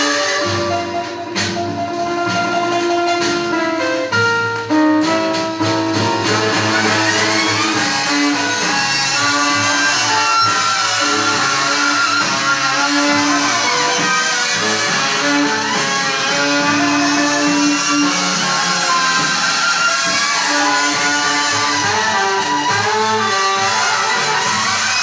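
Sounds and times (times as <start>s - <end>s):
rhythm accompaniment: 0.0s - 25.0s.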